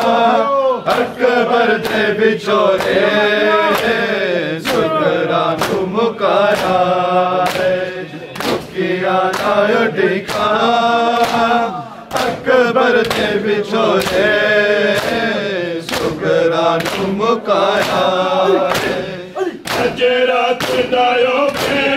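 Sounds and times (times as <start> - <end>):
men chanting in unison: 0.0 - 21.9
hands slapping chests: 0.9 - 21.9.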